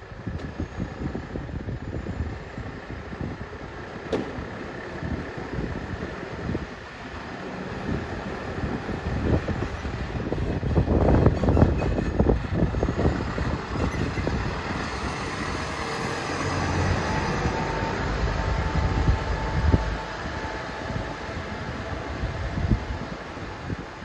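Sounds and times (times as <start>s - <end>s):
traffic engine rumble: 0.0s - 24.0s.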